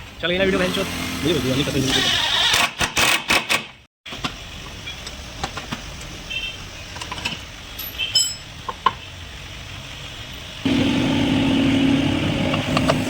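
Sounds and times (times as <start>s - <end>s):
workshop background noise: 0.0s - 13.0s.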